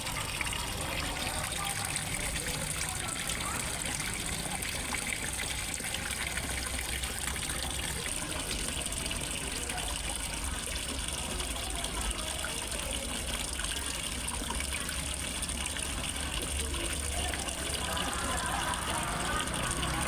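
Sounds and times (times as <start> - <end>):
small waterfall splashing into pond: 0.0 - 20.0.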